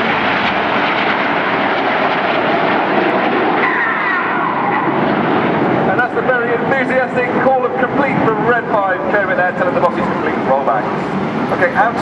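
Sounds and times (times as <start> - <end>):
jet engines roaring: 0.0 - 12.0
jet whine falling in pitch: 0.0 - 12.0.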